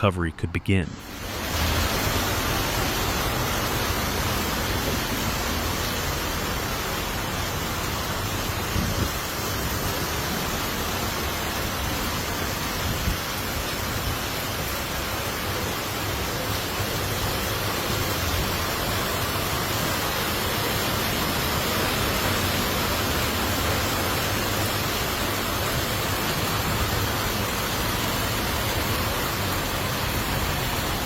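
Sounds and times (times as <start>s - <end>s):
rushing storm noise: 0.7s - 31.0s.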